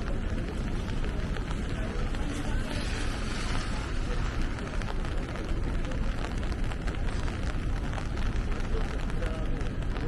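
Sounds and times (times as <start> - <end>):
low rumble of city noise: 0.0 - 10.0
rain on an umbrella: 0.0 - 10.0.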